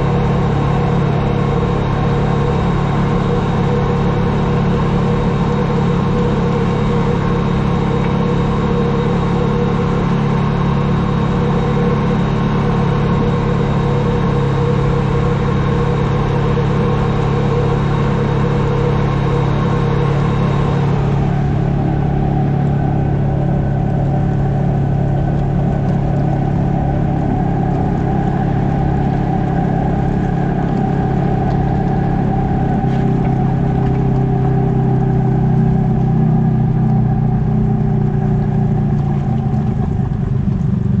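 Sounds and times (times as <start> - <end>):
rumble from dirt track: 0.0 - 41.0
vehicle engine running: 0.0 - 41.0.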